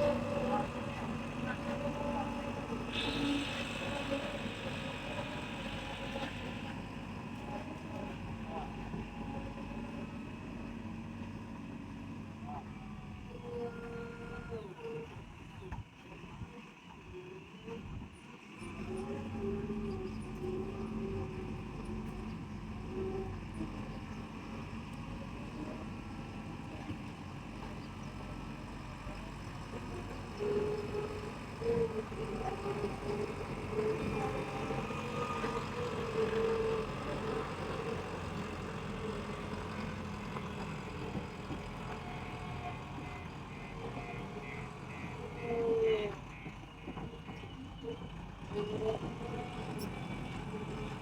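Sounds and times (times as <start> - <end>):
diesel machinery engine rumble: 0.0 - 51.0.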